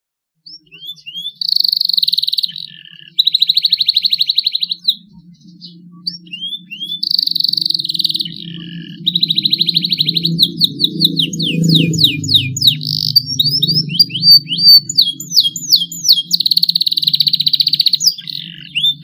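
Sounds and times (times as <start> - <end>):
canary singing trills: 0.4 - 19.0
faint low hum: 0.4 - 19.0.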